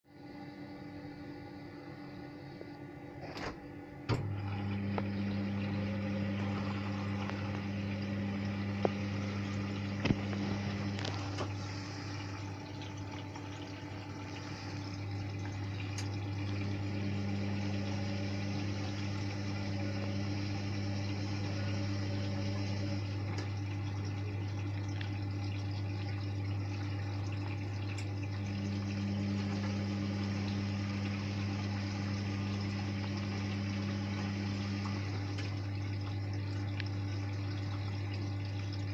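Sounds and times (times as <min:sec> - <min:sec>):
steady electrical hum: 0:00.1 - 0:38.9
higher hum: 0:00.2 - 0:38.8
water running through washing machine: 0:02.4 - 0:38.9.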